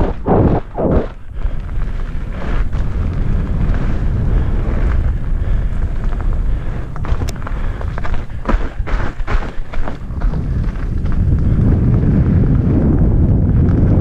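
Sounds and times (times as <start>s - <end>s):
tyres rumbling over gravel: 0.0s - 12.7s
wind rush on microphone: 0.0s - 14.0s.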